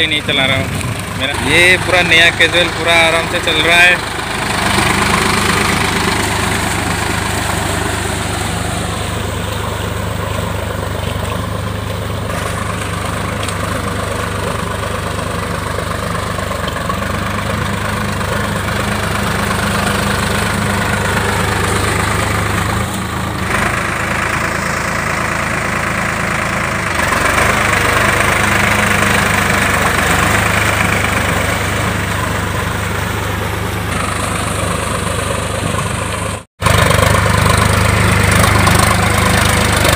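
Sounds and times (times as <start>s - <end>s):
tractor diesel engine running: 0.0s - 39.9s
water and mud churning: 0.2s - 25.4s, 26.2s - 39.9s.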